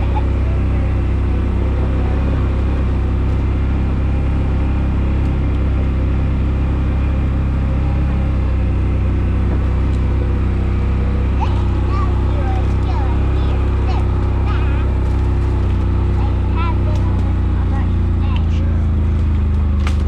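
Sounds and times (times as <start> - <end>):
utility vehicle engine humming: 0.0 - 20.0.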